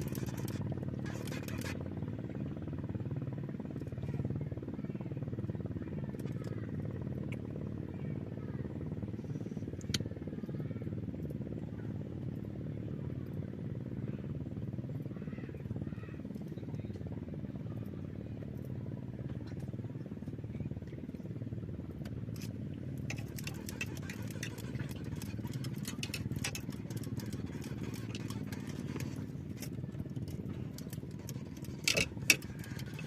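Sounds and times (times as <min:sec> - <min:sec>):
engine rumbling: 0:00.0 - 0:33.0.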